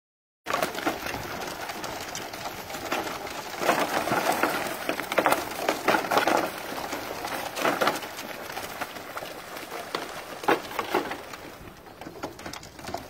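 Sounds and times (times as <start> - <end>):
feet clattering on wooden ramp: 0.5 - 13.0
geese wings flapping: 0.5 - 13.0.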